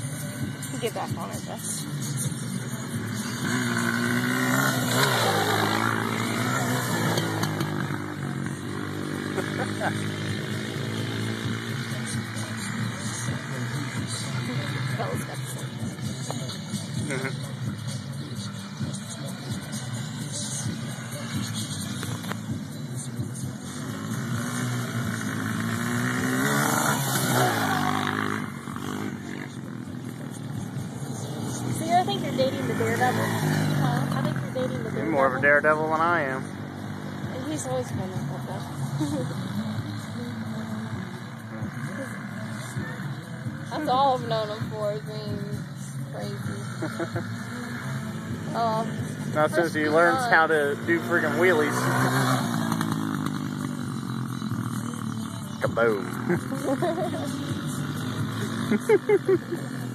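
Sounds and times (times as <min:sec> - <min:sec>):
quad bike engine revving past: 0:00.0 - 0:59.9.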